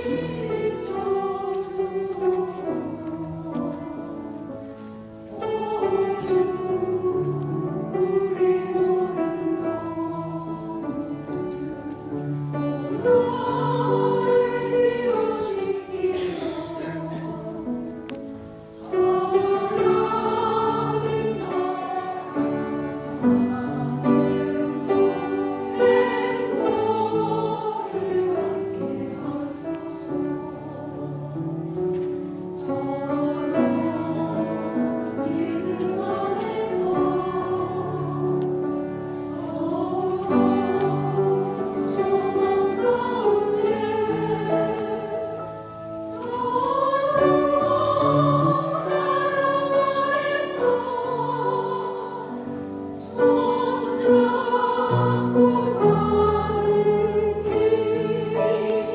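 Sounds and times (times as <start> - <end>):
choir singing a hymn: 0.0 - 58.9.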